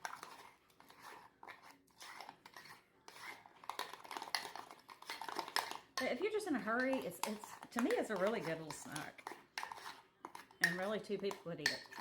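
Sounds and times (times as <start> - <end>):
utensil stirring batter in a cup: 0.0 - 12.0.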